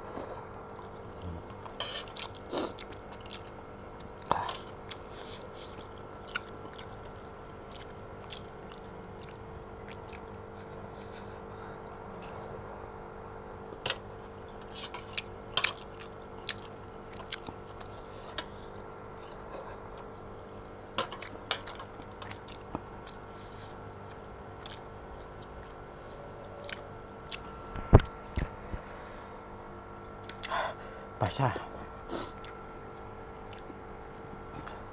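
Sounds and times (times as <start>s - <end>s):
person chewing noodles: 0.0s - 12.8s, 13.6s - 20.2s, 21.0s - 31.0s, 31.8s - 34.9s
faint steady hum: 0.0s - 34.9s.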